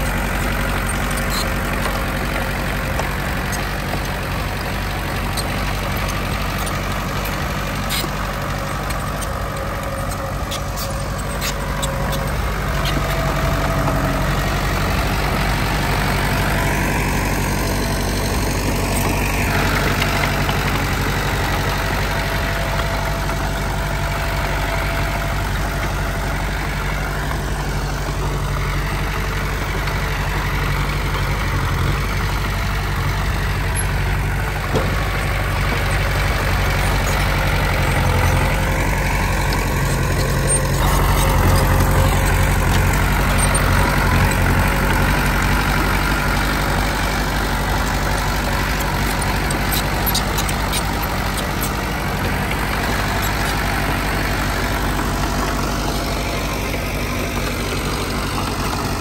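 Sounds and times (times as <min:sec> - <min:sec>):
diesel engine running at low revs: 0:00.0 - 0:59.0.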